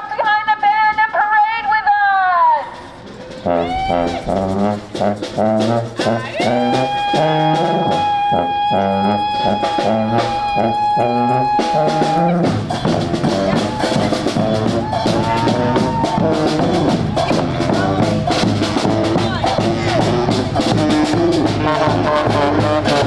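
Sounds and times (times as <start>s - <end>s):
brass band playing: 2.6s - 23.0s
drum beats: 2.6s - 23.0s
horn holding long high note: 3.4s - 23.0s.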